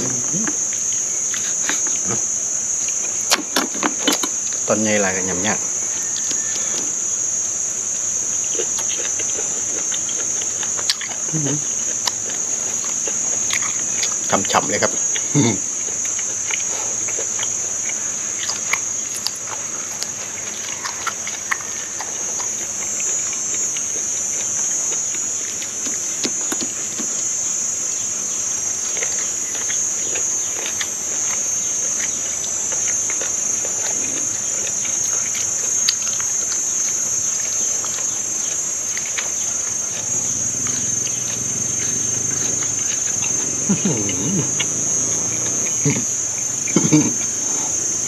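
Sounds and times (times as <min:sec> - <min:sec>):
insects droning: 0:00.0 - 0:48.0
person chewing: 0:00.0 - 0:48.0.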